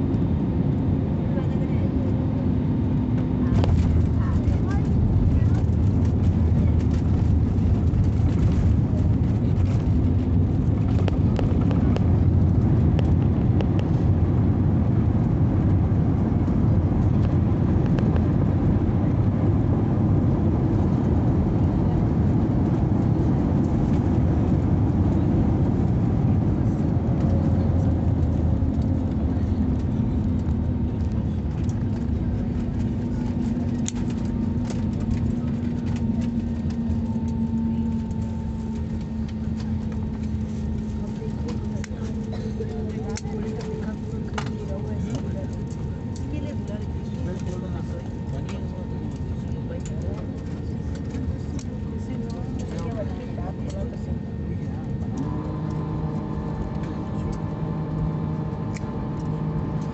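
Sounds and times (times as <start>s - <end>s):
aircraft cabin rumble: 0.0s - 59.9s.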